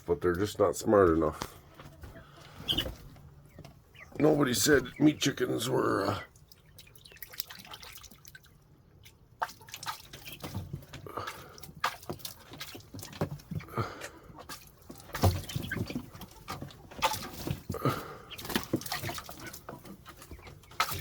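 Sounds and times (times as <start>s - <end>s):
water dripping and splashing: 4.2s - 21.0s.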